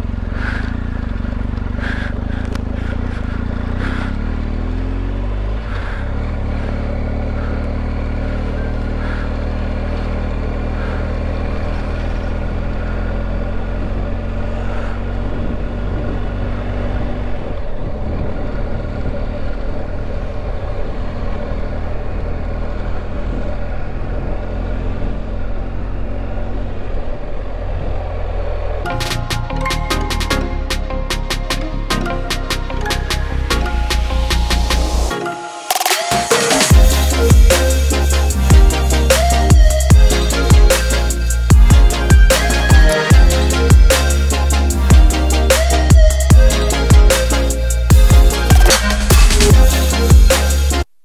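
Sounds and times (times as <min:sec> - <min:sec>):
motorcycle engine: 0:00.0 - 0:35.1, 0:35.9 - 0:51.0.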